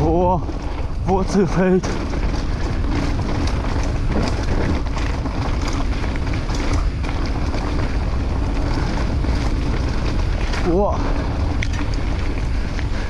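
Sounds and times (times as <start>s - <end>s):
bike rattling and knocking: 0.0s - 13.0s
bike tyres rumbling: 0.0s - 13.0s
wind on microphone: 0.0s - 13.0s.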